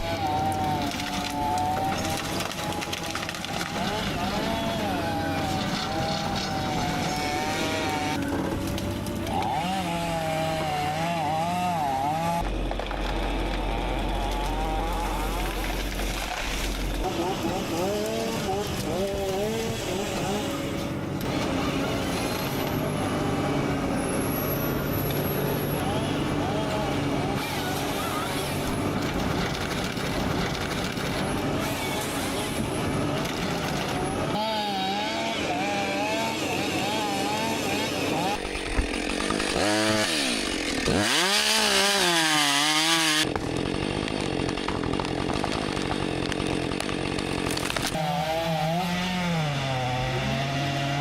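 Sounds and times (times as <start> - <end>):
chainsaw engine revving: 0.0 - 51.0.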